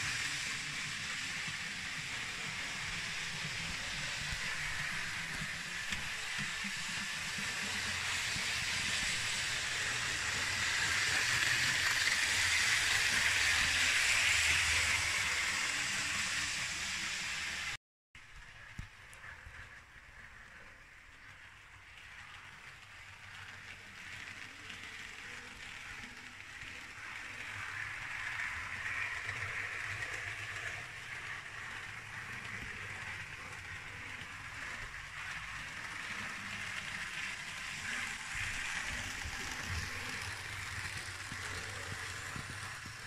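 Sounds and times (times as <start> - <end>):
model train motor whirring: 0.0 - 17.8, 18.6 - 43.0
model train wheels rolling on rails: 0.0 - 43.0.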